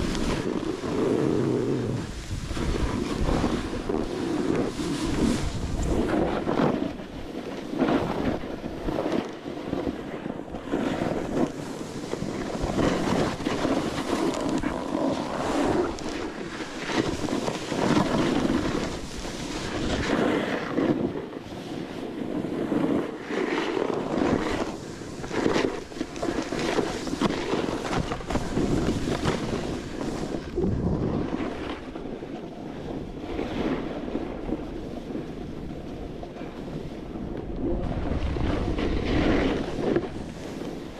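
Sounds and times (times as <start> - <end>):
snowboard scraping on snow: 0.0 - 40.9
wind buffeting microphone: 0.0 - 40.9.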